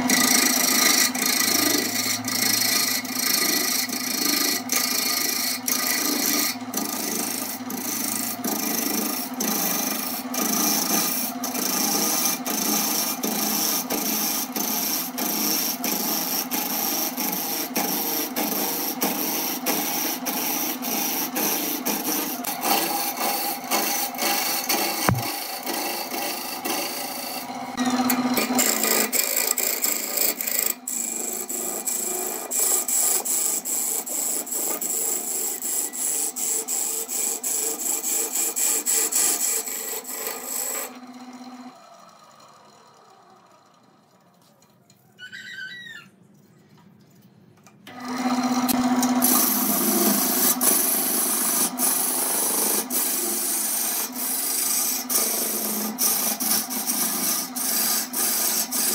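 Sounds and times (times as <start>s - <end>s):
gouge scraping wood on lathe: 0.0s - 41.7s, 47.9s - 58.9s.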